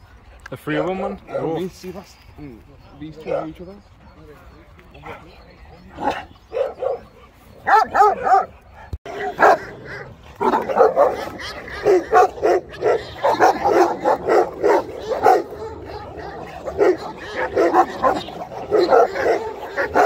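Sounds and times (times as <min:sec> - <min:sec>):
dogs barking: 0:00.7 - 0:01.7, 0:03.1 - 0:03.9, 0:04.8 - 0:20.0.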